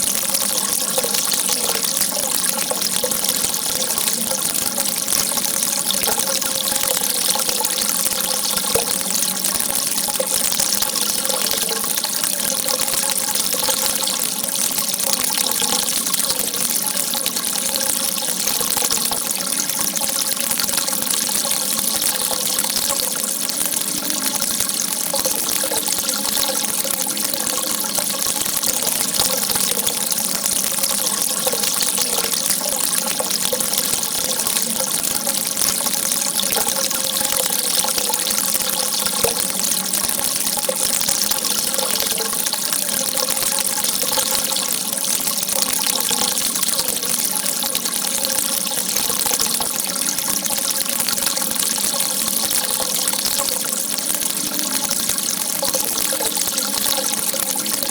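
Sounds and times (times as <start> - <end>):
water gushing: 0.0 - 57.9.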